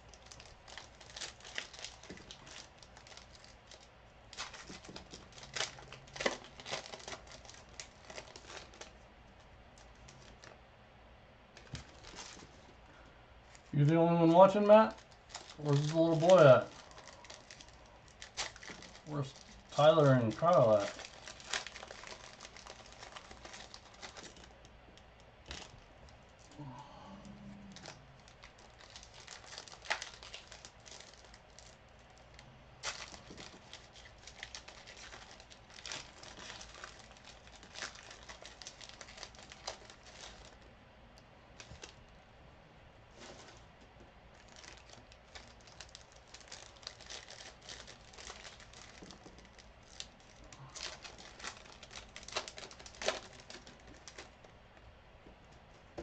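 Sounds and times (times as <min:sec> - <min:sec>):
card pack wrappers crinkling: 0:00.0 - 0:10.6, 0:11.5 - 0:26.6, 0:27.7 - 0:40.7, 0:41.6 - 0:42.1, 0:43.1 - 0:43.7, 0:44.3 - 0:54.5.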